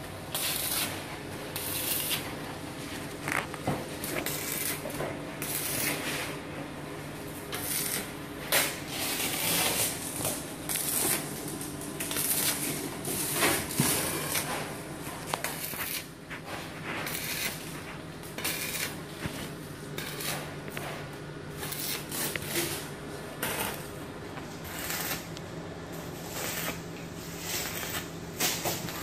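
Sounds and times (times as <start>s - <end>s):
welding arc crackling and hissing: 0.0s - 6.4s, 7.0s - 29.0s
steady low hum: 0.0s - 29.0s.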